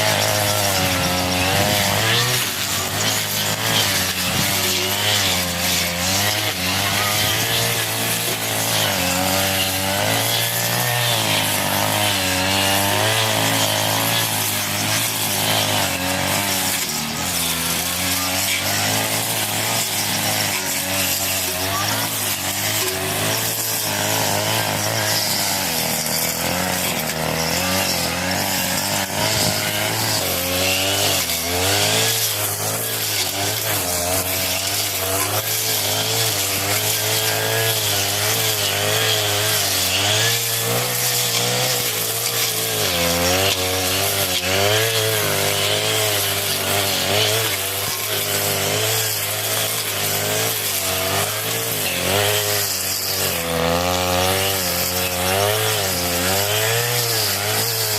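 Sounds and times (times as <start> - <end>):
brush cutter cutting grass: 0.0 - 57.9.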